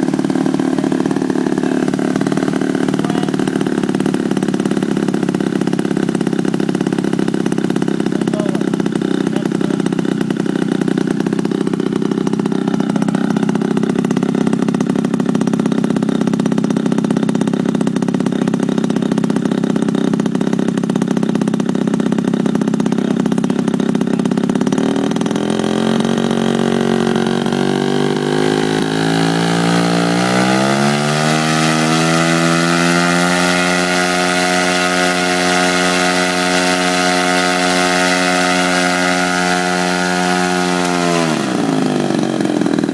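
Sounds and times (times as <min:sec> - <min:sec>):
model plane engine and propeller: 0:00.0 - 0:42.9.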